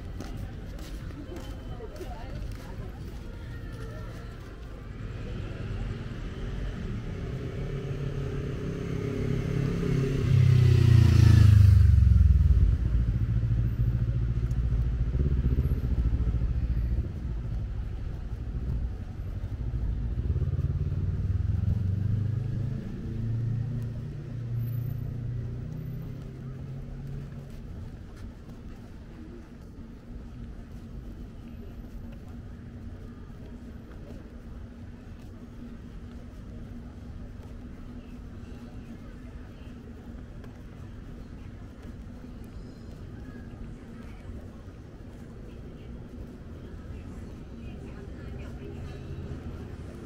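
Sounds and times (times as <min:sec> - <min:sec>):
traffic engines running: 0:00.0 - 0:50.0.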